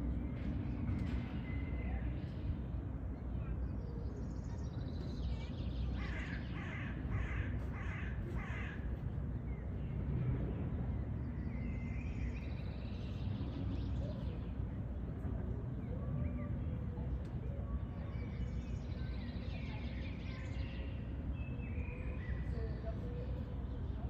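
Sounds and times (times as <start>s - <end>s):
birds chirping softly: 0.0s - 24.0s
steady low rumble: 0.0s - 24.0s.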